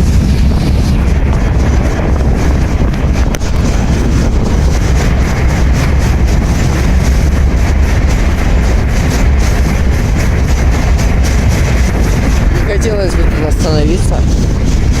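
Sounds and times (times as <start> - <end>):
freight train rumble: 0.0 - 15.0
wind buffeting microphone: 0.0 - 15.0.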